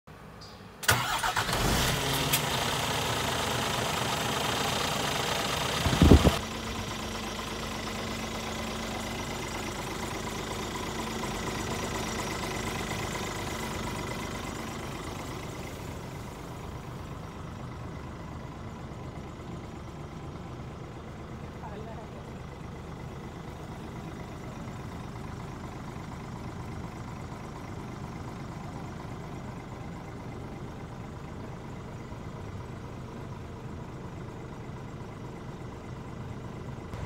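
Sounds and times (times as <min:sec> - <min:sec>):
diesel truck engine idling: 0:00.1 - 0:37.0.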